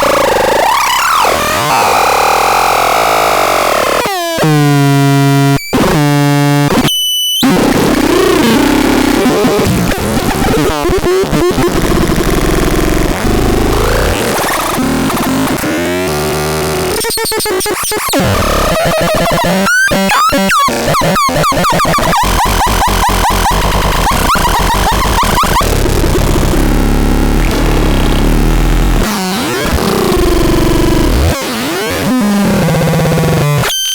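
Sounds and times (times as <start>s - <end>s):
harsh synthesizer tones: 0.0s - 33.7s.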